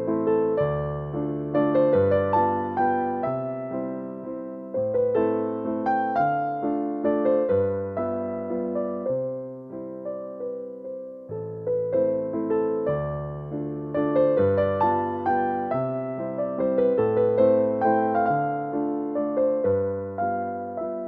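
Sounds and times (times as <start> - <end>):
gentle electric piano melody: 0.0 - 21.0.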